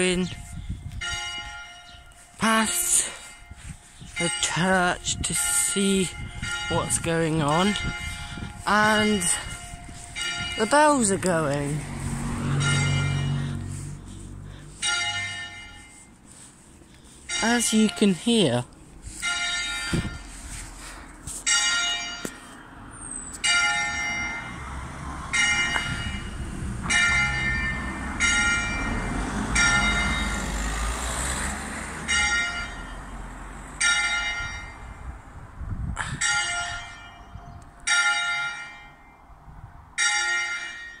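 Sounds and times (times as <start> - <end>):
church bells ringing: 0.0 - 22.6, 23.4 - 35.0, 36.1 - 41.0.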